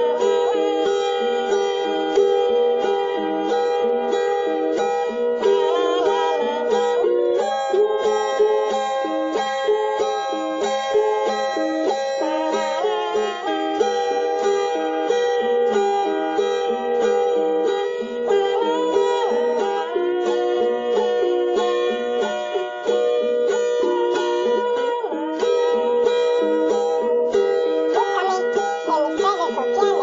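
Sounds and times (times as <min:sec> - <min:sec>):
plucked string instrument melody: 0:00.0 - 0:30.0.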